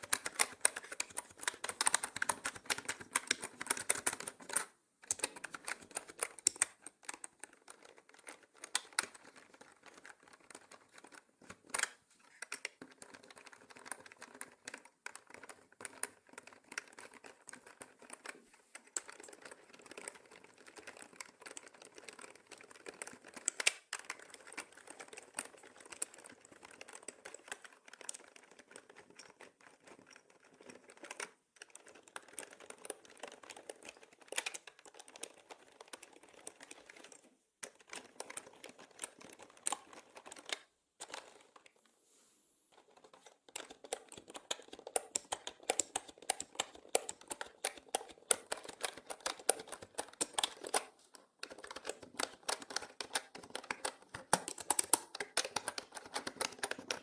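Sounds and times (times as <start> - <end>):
typing on mechanical keyboard: 0.0 - 41.7, 42.8 - 57.0.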